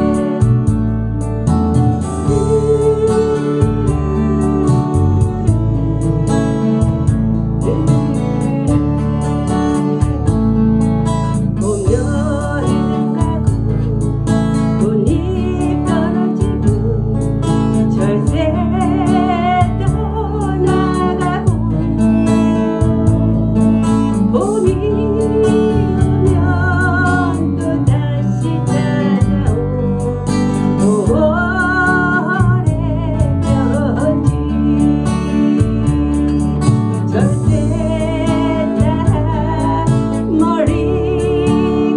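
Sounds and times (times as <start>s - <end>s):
strummed acoustic guitar: 0.0s - 41.9s
woman singing a slow ballad: 0.0s - 41.9s.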